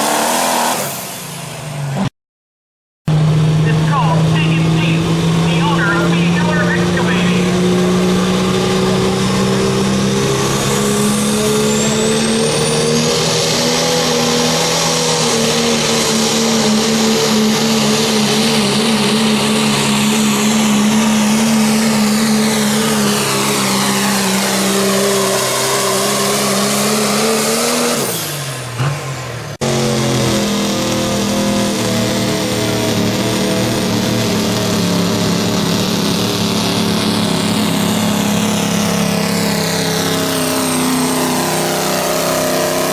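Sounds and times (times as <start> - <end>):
truck engine at high revs: 0.0 - 2.1, 3.1 - 42.9.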